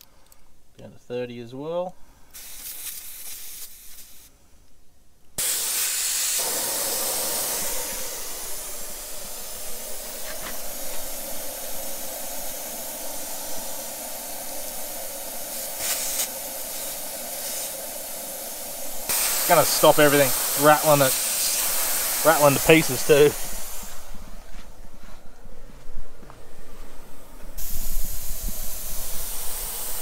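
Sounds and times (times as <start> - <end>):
air hissing out of tyre: 2.2 - 4.4, 5.4 - 24.5, 27.1 - 30.0.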